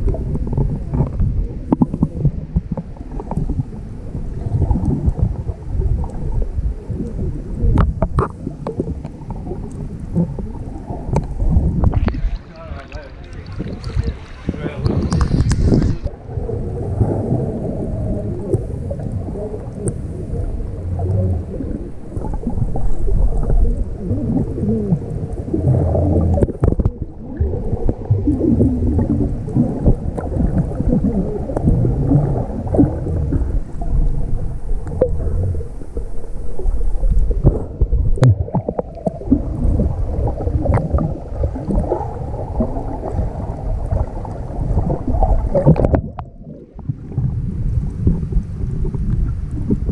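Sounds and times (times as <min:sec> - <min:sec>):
muffled underwater churning and bubbling: 0:00.0 - 0:49.9.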